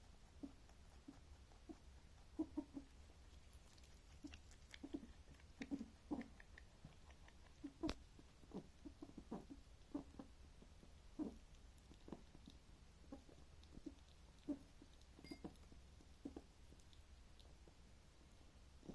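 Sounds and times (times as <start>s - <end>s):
rabbit chewing: 0.0s - 18.9s.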